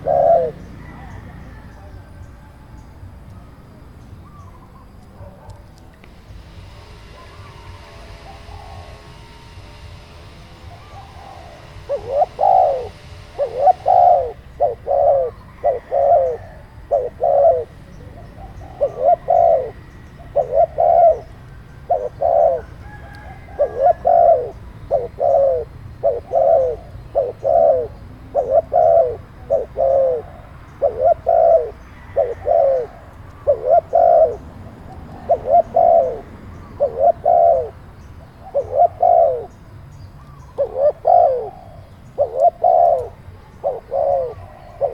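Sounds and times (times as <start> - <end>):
dove cooing: 0.0 - 2.2, 6.6 - 9.9, 10.5 - 39.6, 40.2 - 44.9.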